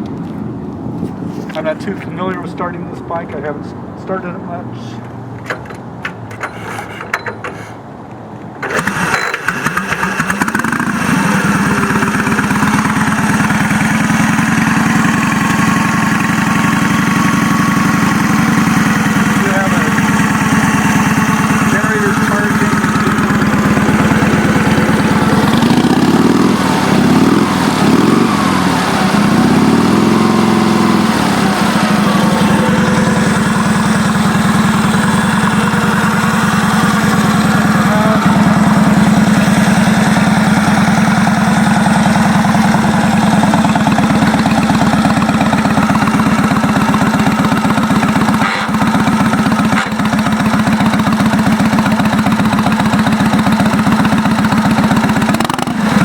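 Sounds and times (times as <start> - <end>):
motorcycle engine revving and idling: 8.5 - 56.0.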